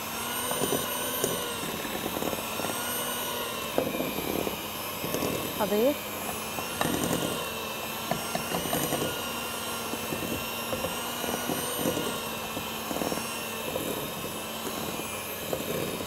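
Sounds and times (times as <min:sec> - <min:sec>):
electric hand mixer whirring: 0:00.0 - 0:16.0.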